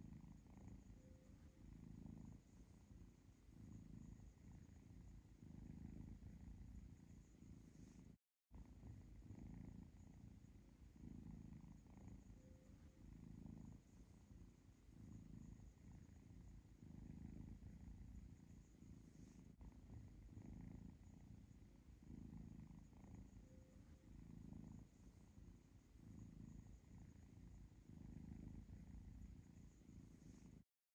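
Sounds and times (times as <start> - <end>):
cat purring: 0.0 - 30.7.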